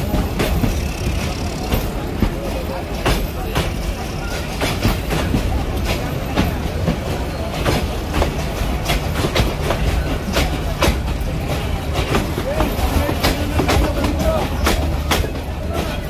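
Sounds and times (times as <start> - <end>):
train carriages rumbling on track: 0.0 - 16.0
wheels clacking over rail joints: 0.0 - 16.0.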